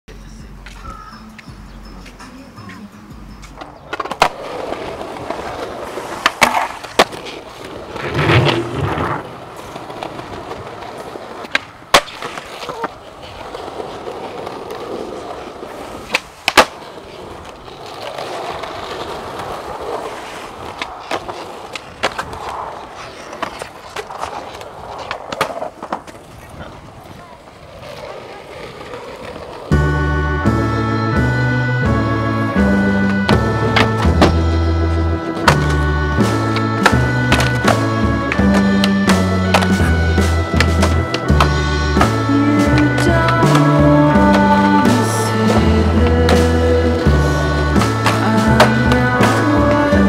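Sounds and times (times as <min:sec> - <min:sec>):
skateboard wheels rolling on asphalt: 0:00.1 - 0:50.0
skateboard clacks: 0:00.6 - 0:50.0.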